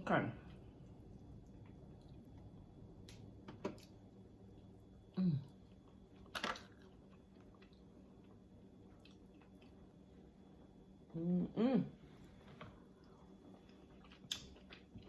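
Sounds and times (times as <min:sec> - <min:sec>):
soft chewing: 0:00.4 - 0:11.1, 0:12.0 - 0:15.0.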